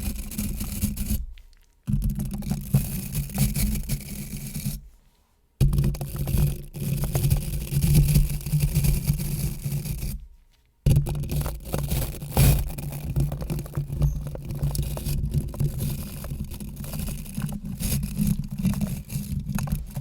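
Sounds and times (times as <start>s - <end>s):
close scratching and scraping: 0.0s - 5.0s, 5.6s - 20.0s.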